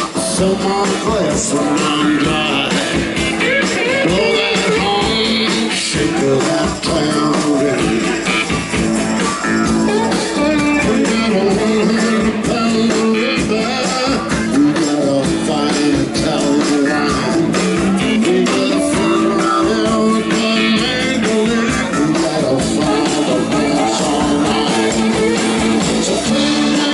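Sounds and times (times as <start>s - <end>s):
blues-rock band playing: 0.0s - 26.9s
electric guitar: 0.0s - 26.9s.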